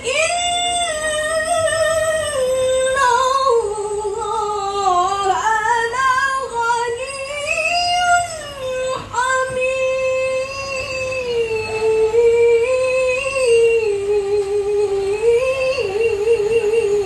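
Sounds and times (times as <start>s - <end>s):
woman reciting melodically: 0.0s - 17.0s.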